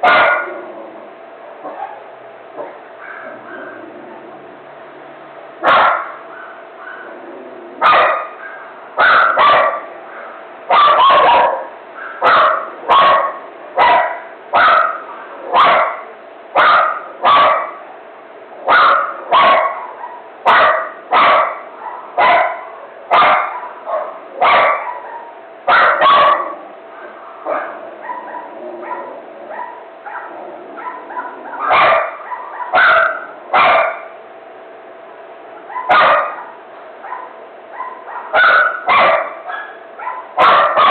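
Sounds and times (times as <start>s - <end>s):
dog barking: 0.0s - 0.6s, 1.6s - 3.8s, 5.6s - 7.2s, 7.8s - 17.8s, 18.7s - 34.2s, 35.6s - 40.9s.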